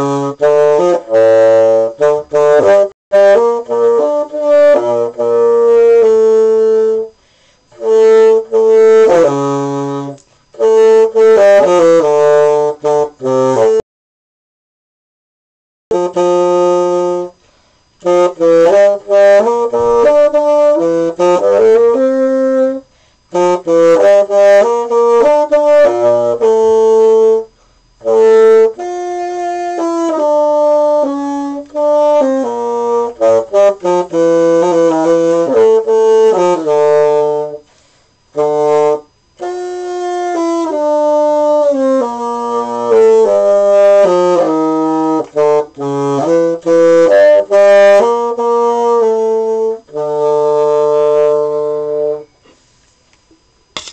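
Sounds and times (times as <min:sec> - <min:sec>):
solo bassoon melody: 0:00.0 - 0:13.8, 0:15.9 - 0:52.5.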